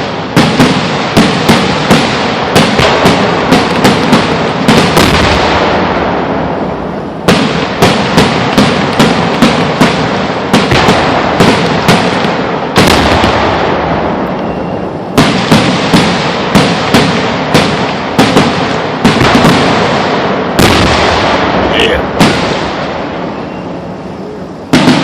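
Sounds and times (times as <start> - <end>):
crackling rumble: 0.0 - 25.0
fireworks bursting: 0.0 - 25.0.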